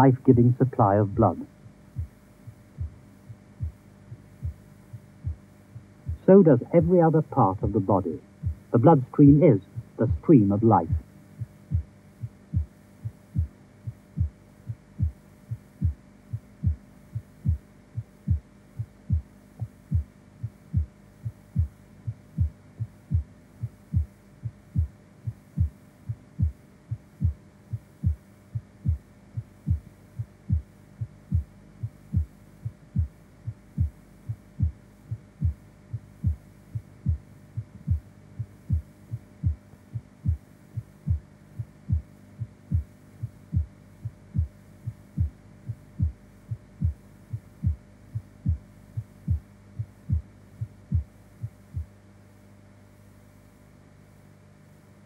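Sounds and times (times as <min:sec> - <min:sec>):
heartbeat thudding: 0:00.0 - 0:52.0
faint steady hum: 0:00.0 - 0:55.0.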